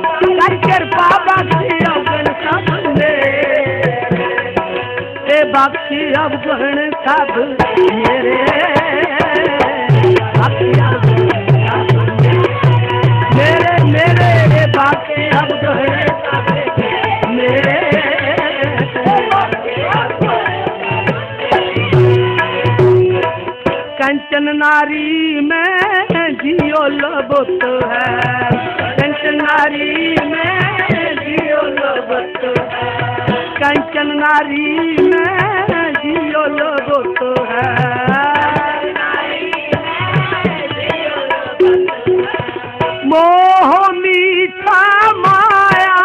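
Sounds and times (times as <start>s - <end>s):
tabla playing: 0.0s - 46.0s.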